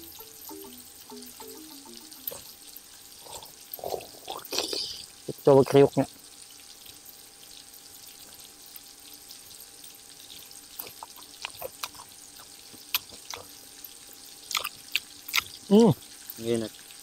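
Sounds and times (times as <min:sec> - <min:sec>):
chicken sizzling in oil: 0:00.0 - 0:17.0
oil crackles and pops: 0:00.0 - 0:17.0.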